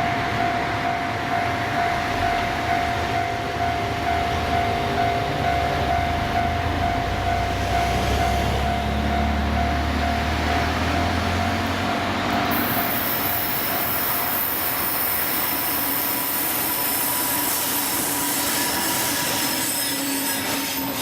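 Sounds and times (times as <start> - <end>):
steady high tone: 0.0 - 18.5
freight train low rumble: 0.0 - 21.0.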